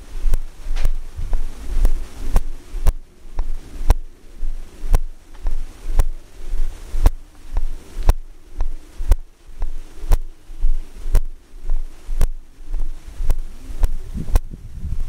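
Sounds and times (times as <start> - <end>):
rhythmic thumps with clicks: 0.0 - 15.0.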